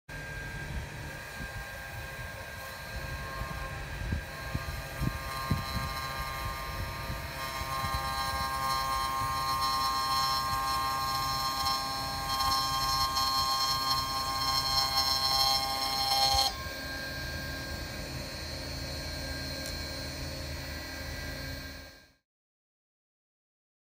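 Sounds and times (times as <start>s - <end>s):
cloth splitting machine whine: 0.1s - 22.2s.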